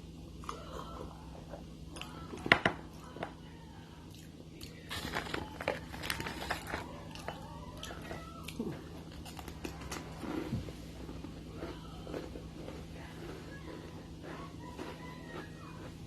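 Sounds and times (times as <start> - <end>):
crackers being chewed: 0.4 - 3.4, 4.0 - 16.0.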